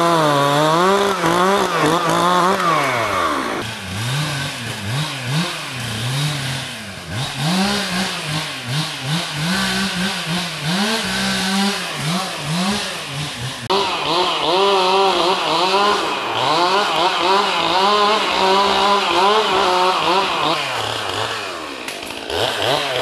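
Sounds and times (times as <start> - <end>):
chainsaw engine revving: 0.0 - 23.0.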